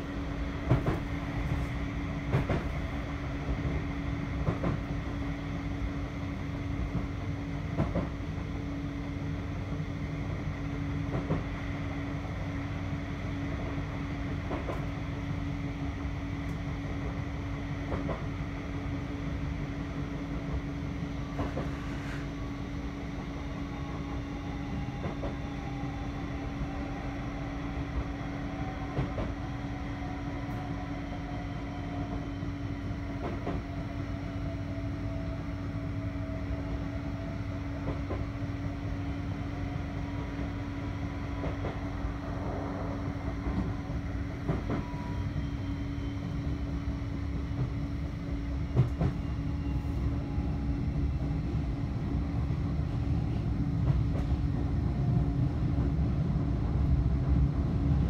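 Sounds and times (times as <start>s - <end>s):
tram running rumble: 0.0s - 58.0s.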